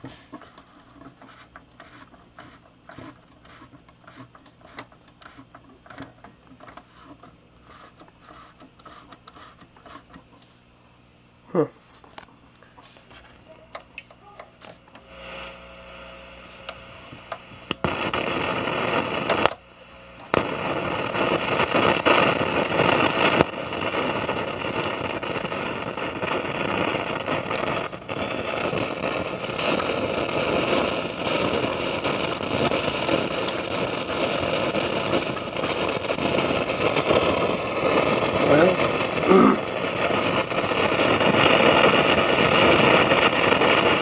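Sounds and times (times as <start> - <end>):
radio static hiss: 0.0 - 44.0.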